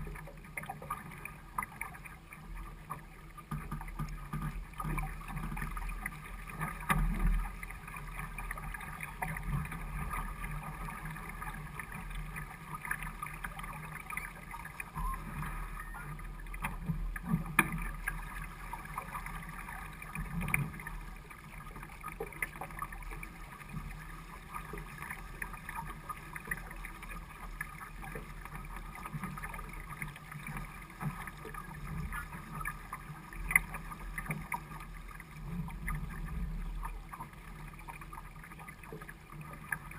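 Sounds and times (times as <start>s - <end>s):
water splashing along boat hull: 0.0s - 39.9s.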